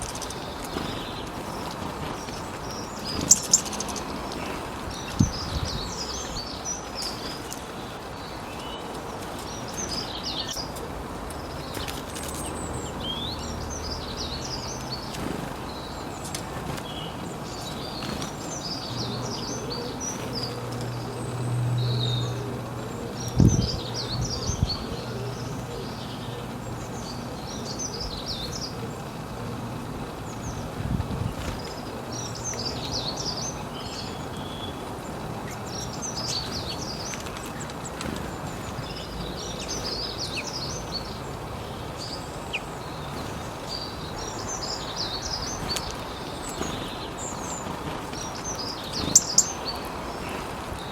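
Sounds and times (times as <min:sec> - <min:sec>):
outdoor background noise: 0:00.0 - 0:50.9
small birds chirping: 0:00.0 - 0:50.9.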